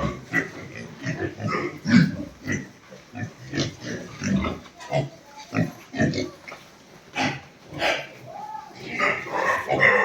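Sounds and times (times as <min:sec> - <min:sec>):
pigs grunting: 0:00.0 - 0:06.5, 0:07.1 - 0:10.0.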